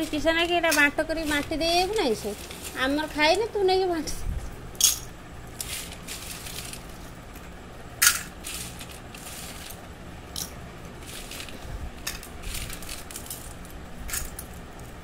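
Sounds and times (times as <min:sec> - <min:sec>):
peanuts rattling on a steel plate: 0:00.0 - 0:03.6, 0:04.8 - 0:07.2, 0:08.0 - 0:15.0.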